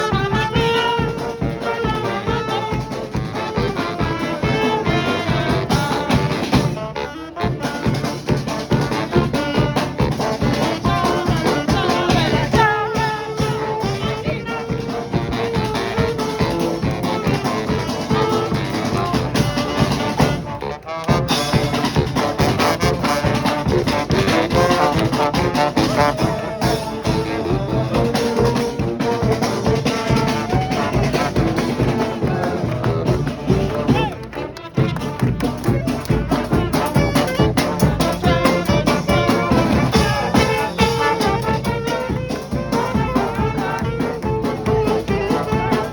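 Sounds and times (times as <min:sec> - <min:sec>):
brass band playing: 0:00.0 - 0:45.9.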